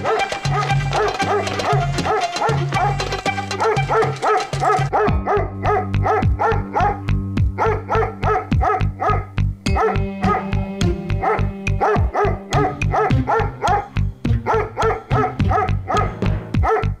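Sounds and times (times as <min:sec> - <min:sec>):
dog barking rapidly: 0:00.0 - 0:07.0, 0:07.6 - 0:10.4, 0:11.2 - 0:17.0
background music: 0:00.0 - 0:17.0.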